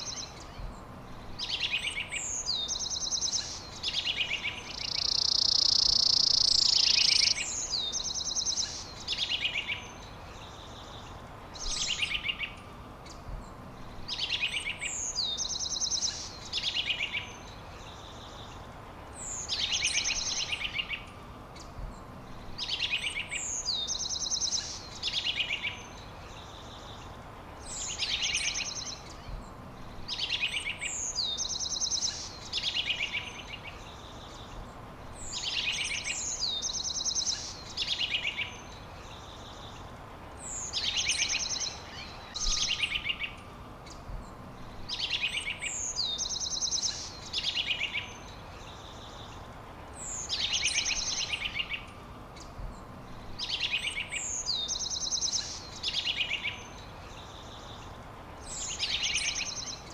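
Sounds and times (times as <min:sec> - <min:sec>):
faint background hiss: 0:00.0 - 0:59.9
songbird singing trill: 0:00.0 - 0:59.9.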